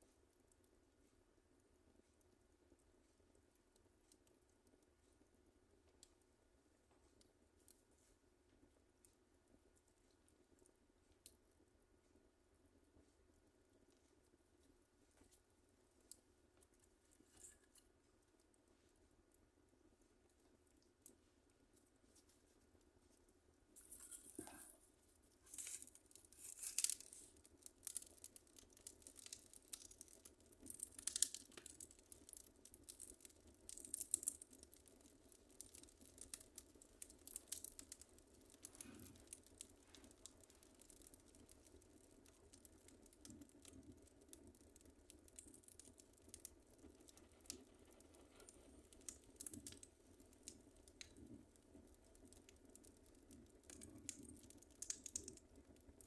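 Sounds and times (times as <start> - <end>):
wood fire crackling and popping: 0.2 - 56.0.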